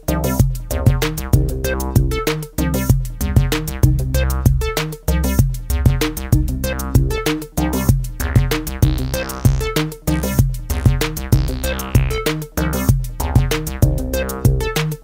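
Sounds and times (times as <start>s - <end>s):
drum machine beat: 0.0s - 15.0s
synthesizer: 0.0s - 15.0s.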